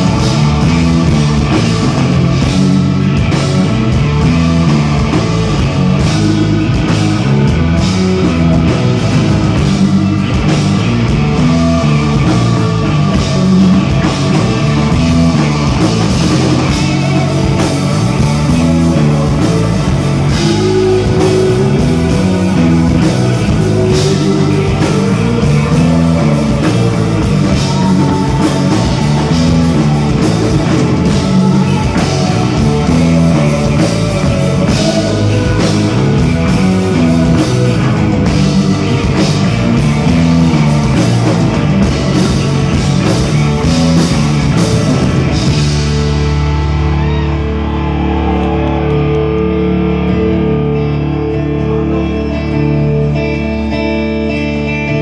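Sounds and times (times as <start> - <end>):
drum kit: 0.0 - 51.8
bass guitar: 0.0 - 55.0
electric guitars: 0.0 - 55.0.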